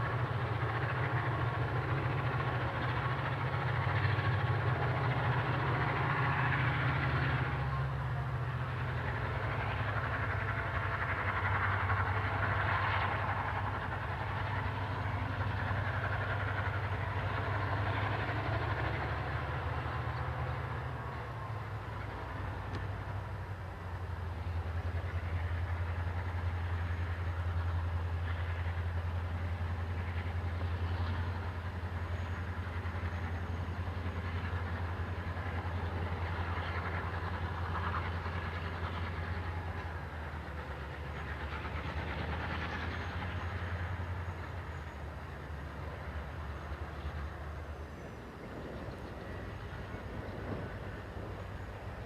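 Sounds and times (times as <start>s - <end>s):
deep locomotive engine drone: 0.0s - 52.0s
rail and wagon noise: 0.0s - 52.0s.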